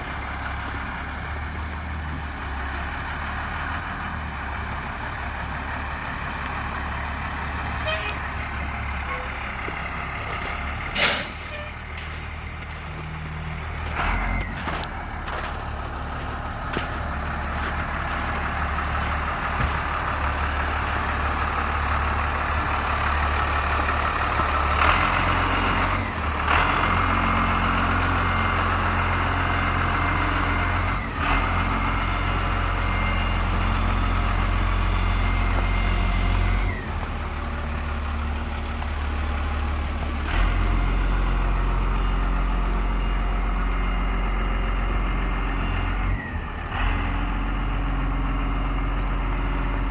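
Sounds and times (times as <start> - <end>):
diesel truck engine droning: 0.0 - 49.9.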